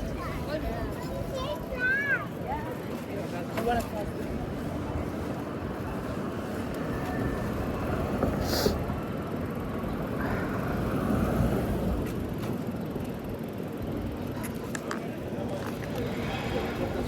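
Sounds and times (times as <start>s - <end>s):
rumble of passing vehicles: 0.0s - 17.0s.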